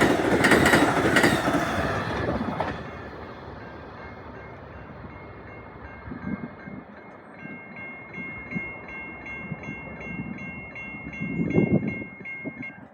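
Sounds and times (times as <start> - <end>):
passing train rumbling: 0.0 - 12.9
railroad crossing bell ringing: 0.0 - 12.9.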